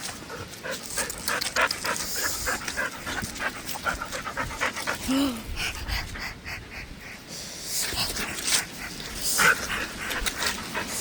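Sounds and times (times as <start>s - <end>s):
dog panting rapidly: 0.1s - 11.0s.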